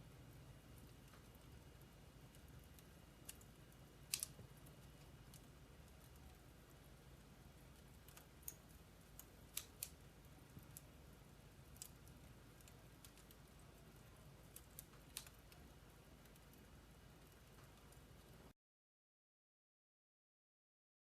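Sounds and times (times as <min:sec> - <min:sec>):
faint low hum: 0:00.0 - 0:18.5
fireplace crackling: 0:00.0 - 0:18.5.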